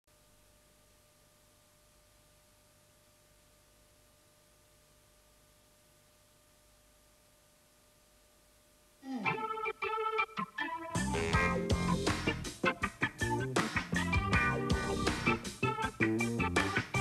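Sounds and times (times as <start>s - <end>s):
faint steady hiss: 0.1s - 17.0s.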